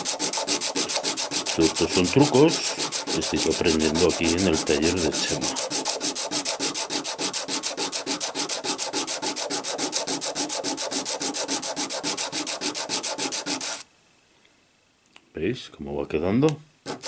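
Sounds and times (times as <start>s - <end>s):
coin rasping on sandpaper: 0.0s - 13.8s.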